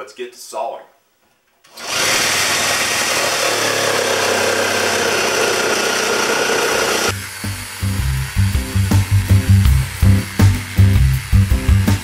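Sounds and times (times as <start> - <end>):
jigsaw cutting: 1.7 - 12.0.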